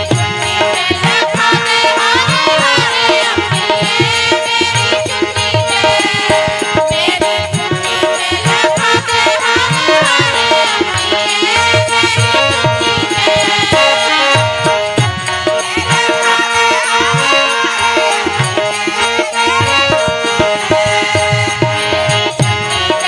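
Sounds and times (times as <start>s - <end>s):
hand drum rhythm: 0.0s - 23.0s.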